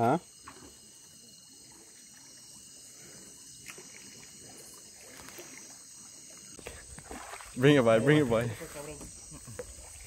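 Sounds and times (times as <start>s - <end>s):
crickets and insects chirping: 0.0s - 10.0s
water trickling and dripping: 0.3s - 10.0s.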